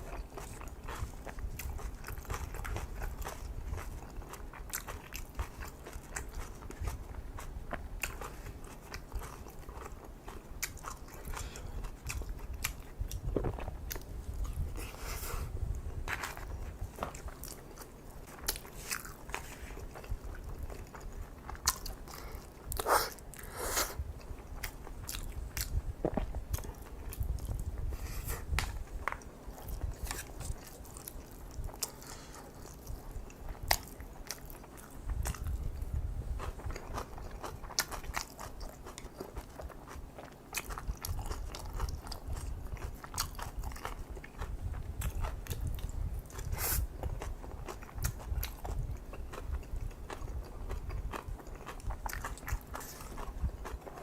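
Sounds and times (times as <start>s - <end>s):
chewing with crunchy bites: 0.0s - 54.0s.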